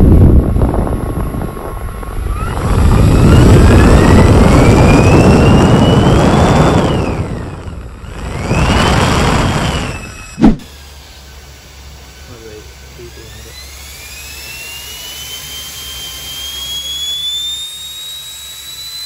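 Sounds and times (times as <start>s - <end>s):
electric ducted fan whining: 0.0s - 19.0s.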